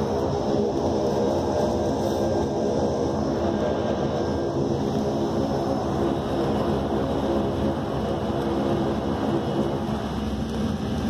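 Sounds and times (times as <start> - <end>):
turboprop engines droning: 0.0 - 11.0.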